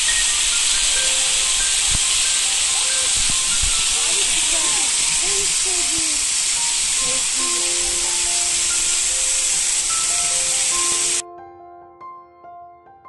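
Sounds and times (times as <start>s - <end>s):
waterfall rushing: 0.0s - 11.2s
soft piano music: 0.0s - 13.0s.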